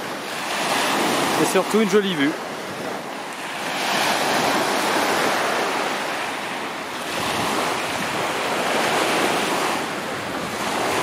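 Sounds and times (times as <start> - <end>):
waves washing on sandy beach: 0.0 - 11.0.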